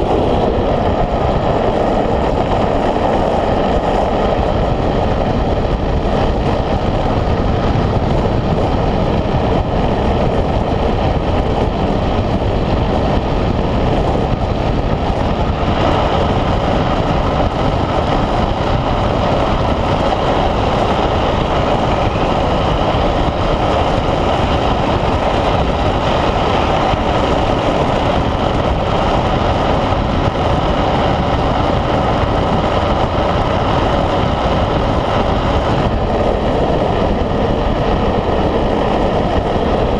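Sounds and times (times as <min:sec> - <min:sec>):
tyres rolling on asphalt: 0:00.0 - 0:39.9
wind rushing over microphone: 0:00.0 - 0:39.9.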